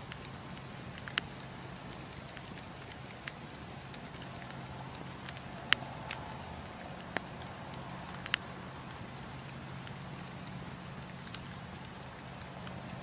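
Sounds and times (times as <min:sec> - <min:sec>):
burning logs crackling and popping: 0:00.0 - 0:13.0
campfire flames hissing: 0:00.0 - 0:13.0.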